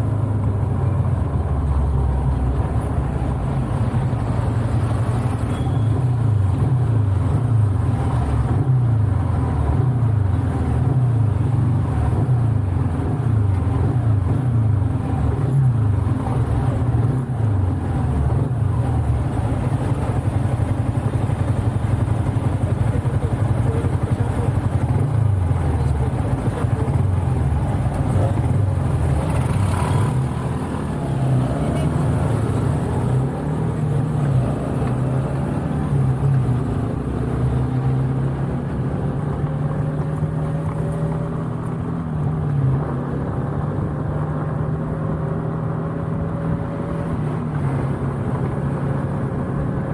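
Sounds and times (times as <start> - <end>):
motorcycle engine revving while riding: 5.9 - 49.9.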